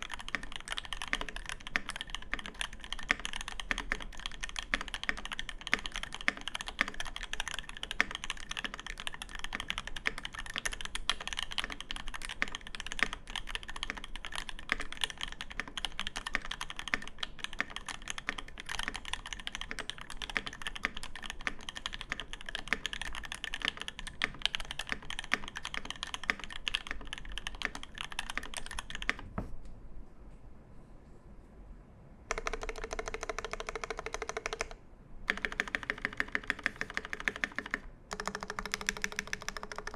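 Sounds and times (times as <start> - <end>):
typing on mechanical keyboard: 0.0 - 29.2, 32.3 - 39.9.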